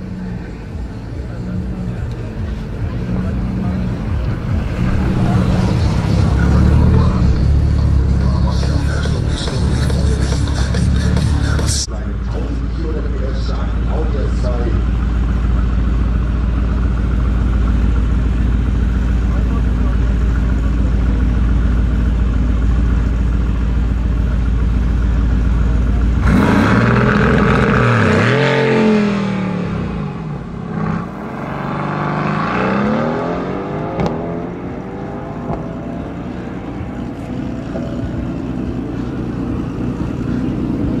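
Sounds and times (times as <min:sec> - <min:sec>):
car engine revving and accelerating: 0:00.0 - 0:22.3, 0:25.4 - 0:41.0.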